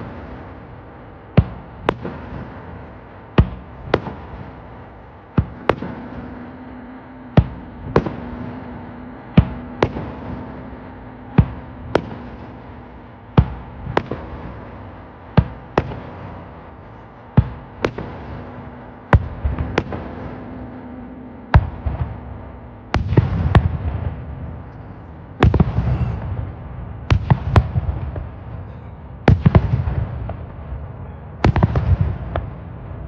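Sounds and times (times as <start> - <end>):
continuous rumbling: 0.0 - 33.0
fireworks bursting: 0.0 - 33.0.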